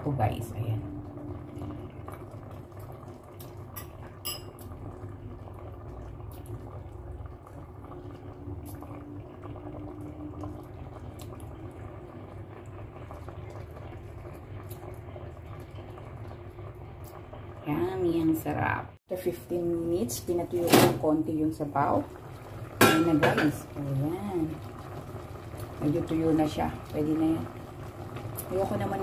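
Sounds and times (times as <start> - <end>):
sauce bubbling in a metal pot: 0.1 - 19.0, 21.1 - 29.0.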